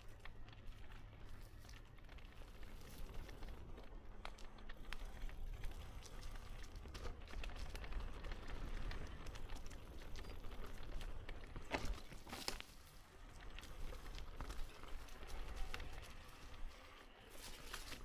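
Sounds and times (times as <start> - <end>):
footsteps crackling on trail: 0.0 - 18.0.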